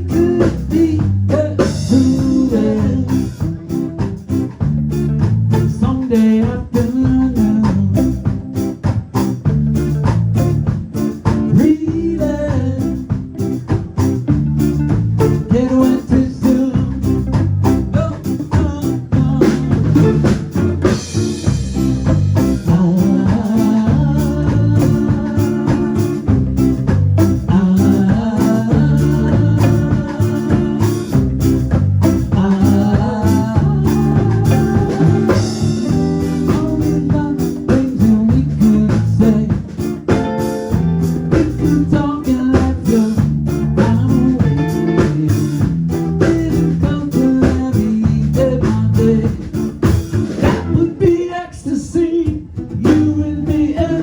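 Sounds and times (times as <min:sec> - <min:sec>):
drum kit beat: 0:00.0 - 0:51.3, 0:52.0 - 0:54.0
guitar: 0:00.0 - 0:54.0.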